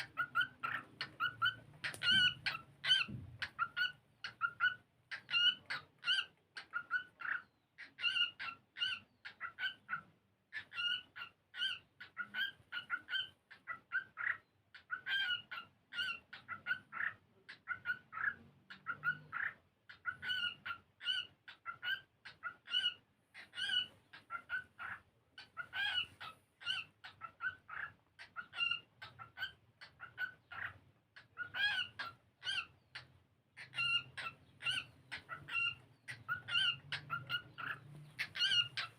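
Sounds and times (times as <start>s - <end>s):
cockatiel chirps and whistles: 0.0s - 38.9s.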